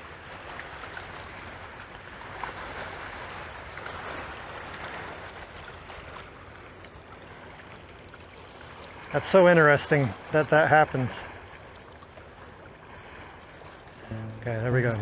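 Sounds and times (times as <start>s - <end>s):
small waves lapping on shore: 0.0s - 15.0s.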